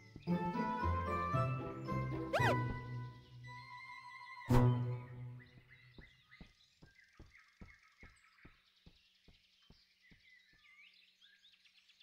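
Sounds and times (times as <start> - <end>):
faint bird chirps: 2.3 - 12.0.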